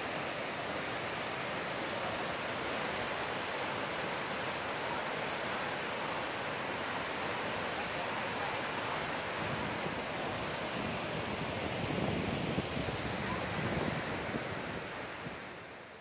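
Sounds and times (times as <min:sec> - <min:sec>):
waterfalls rushing: 0:00.0 - 0:16.0.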